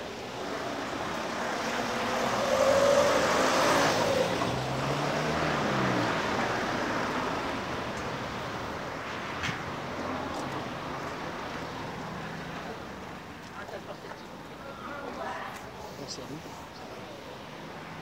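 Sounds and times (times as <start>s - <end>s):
steady traffic noise: 0.0s - 18.0s.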